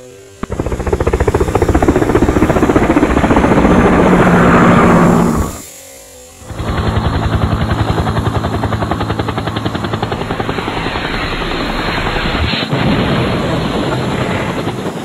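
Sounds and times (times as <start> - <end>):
helicopter rotor chopping: 0.0 - 5.7, 6.4 - 15.0.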